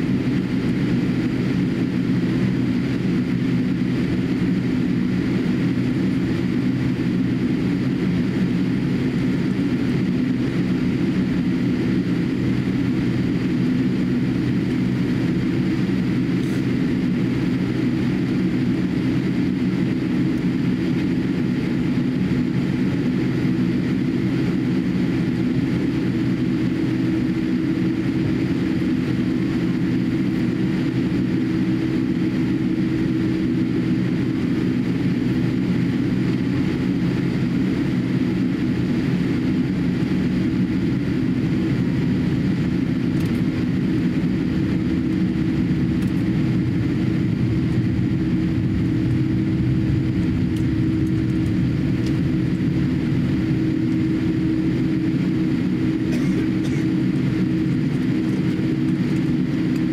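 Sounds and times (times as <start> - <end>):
airliner cabin hum: 0.0 - 59.9.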